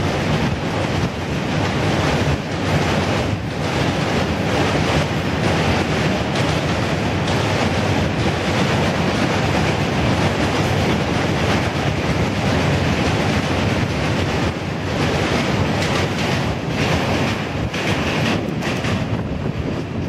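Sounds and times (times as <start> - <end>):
freight train rumbling over bridge: 0.0 - 20.0.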